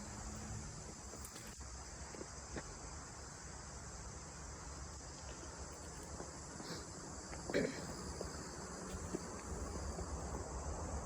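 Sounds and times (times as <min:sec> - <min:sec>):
chorus of insects: 0:00.0 - 0:11.0.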